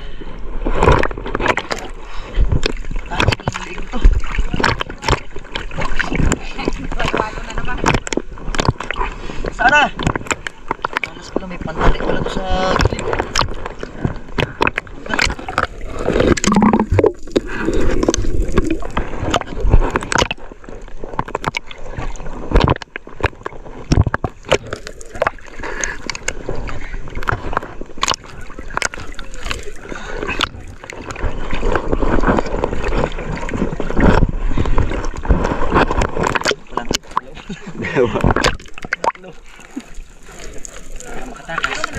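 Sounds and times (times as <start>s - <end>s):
sea water sloshing: 0.0s - 41.9s
waves slapping camera housing: 0.7s - 41.9s.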